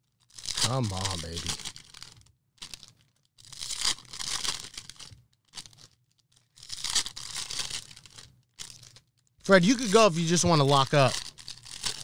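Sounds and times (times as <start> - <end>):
wrapper tearing and crinkling: 0.0 - 12.0.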